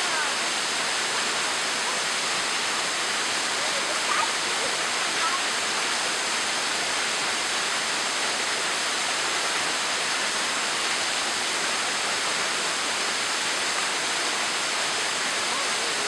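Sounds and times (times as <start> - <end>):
waterfall rushing onto rocks: 0.0 - 16.0.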